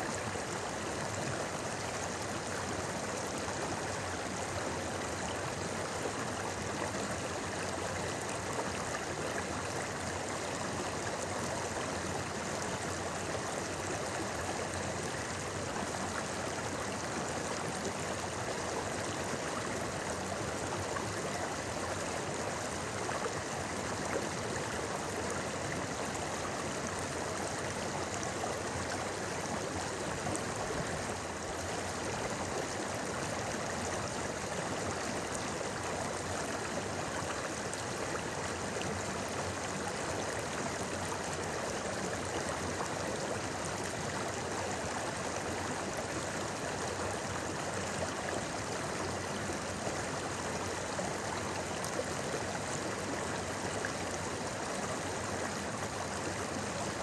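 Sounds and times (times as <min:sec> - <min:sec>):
river water babbling over rocks: 0:00.0 - 0:57.0.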